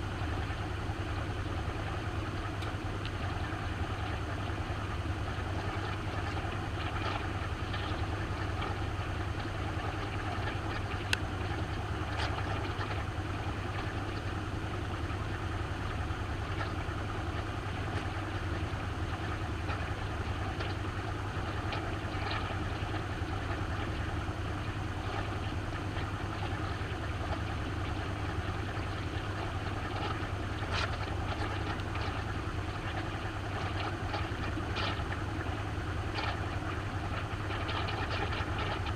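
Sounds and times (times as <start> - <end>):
rushing water in washer: 0.0 - 38.9
washing machine motor hum: 0.0 - 38.9.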